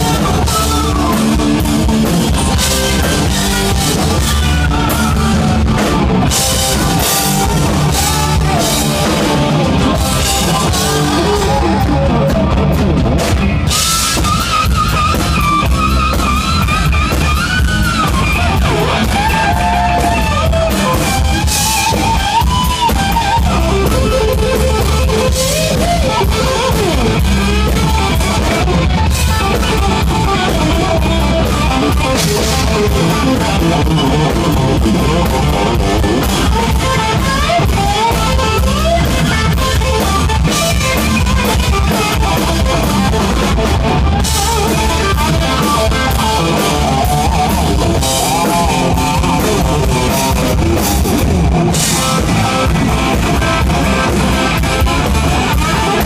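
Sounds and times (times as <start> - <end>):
bass guitar: 0.0 - 56.0
drums: 0.0 - 56.0
electric guitar lead line: 0.0 - 56.0.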